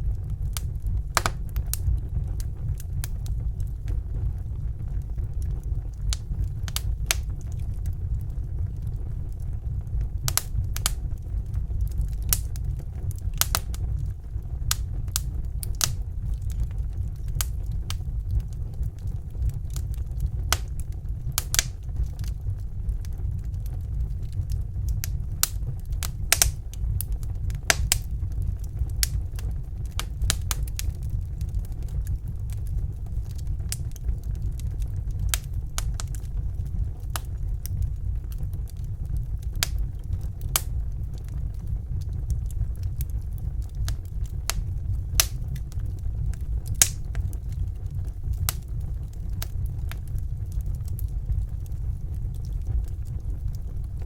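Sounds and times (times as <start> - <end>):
fire crackling and popping: 0.0 - 54.0
low fire rumble: 0.0 - 54.0.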